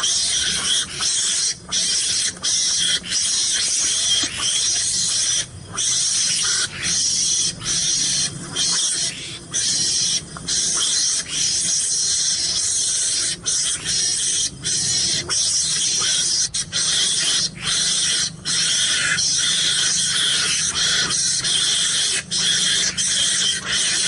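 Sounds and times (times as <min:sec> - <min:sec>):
mongoose hissing screeches: 0:00.0 - 0:24.0.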